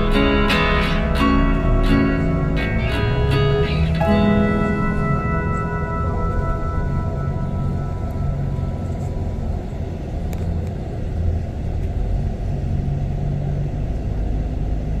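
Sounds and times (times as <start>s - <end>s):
vehicle cabin engine and road noise: 0.0s - 15.0s.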